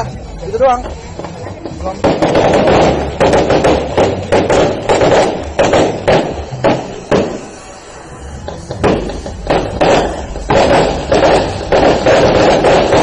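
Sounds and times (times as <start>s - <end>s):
fireworks bangs: 1.0s - 13.0s.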